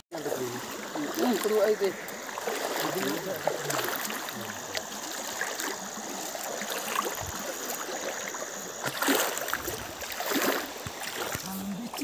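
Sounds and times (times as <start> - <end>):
river water trickling: 0.1 - 12.0
water splashing: 0.1 - 12.0.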